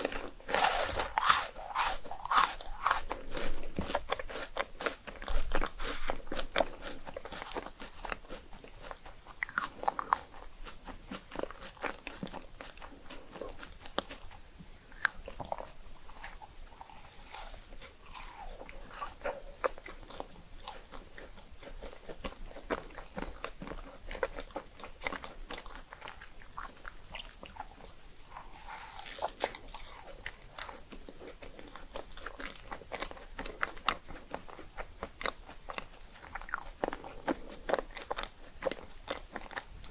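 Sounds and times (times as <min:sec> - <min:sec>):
person chewing crisp rice cakes: 0:00.0 - 0:39.9.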